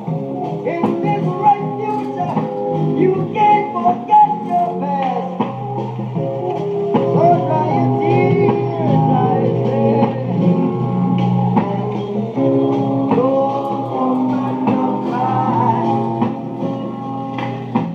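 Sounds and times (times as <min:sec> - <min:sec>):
song with guitar and singing: 0:00.0 - 0:17.9.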